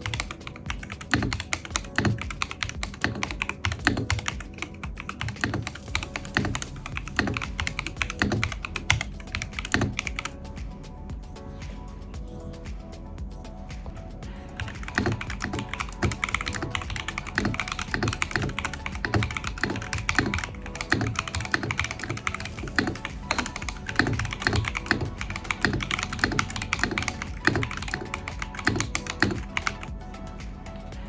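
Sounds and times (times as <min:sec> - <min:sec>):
mechanical keyboard typing: 0:00.0 - 0:10.3, 0:14.6 - 0:29.9
quiet background music: 0:00.0 - 0:31.0.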